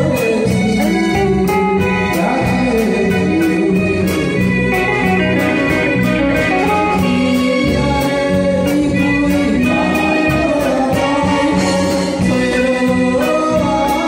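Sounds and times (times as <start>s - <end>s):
man singing into microphone: 0.0s - 5.6s, 6.5s - 14.0s
live band with drums and keyboard: 0.0s - 14.0s.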